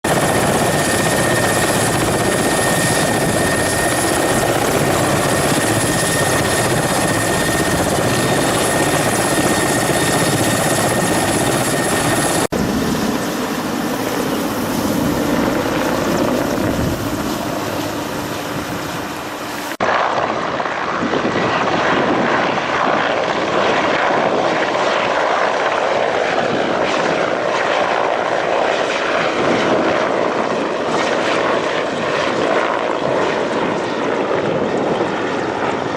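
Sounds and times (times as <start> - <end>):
aircraft engine and rotor noise: 0.0 - 35.9.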